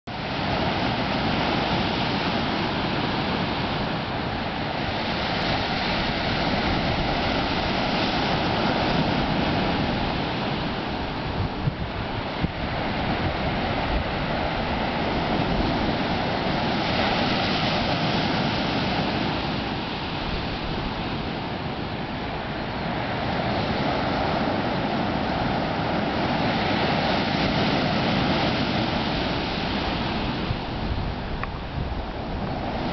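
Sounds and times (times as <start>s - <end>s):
small waves breaking on beach: 0.1s - 32.9s.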